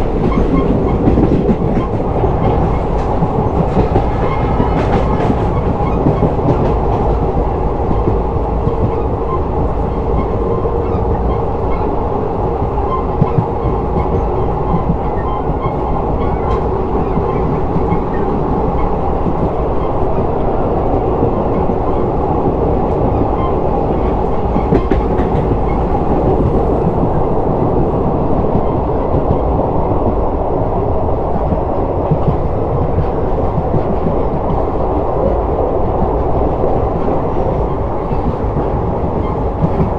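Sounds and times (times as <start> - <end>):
train wheels running over rails: 0.0 - 39.9.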